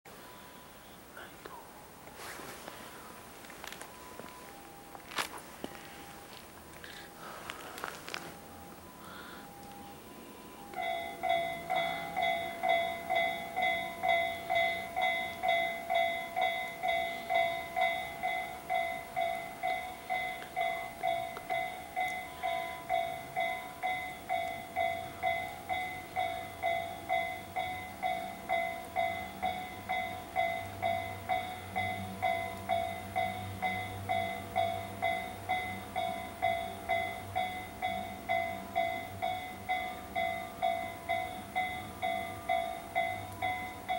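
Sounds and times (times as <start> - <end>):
level-crossing warning bell: 0.1 - 0.8, 3.1 - 43.9
train rumbling: 0.1 - 43.9.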